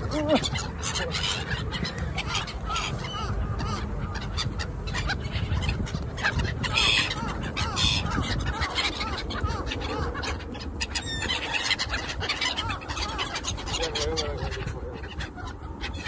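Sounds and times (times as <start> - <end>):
gulls calling: 0.0 - 16.0.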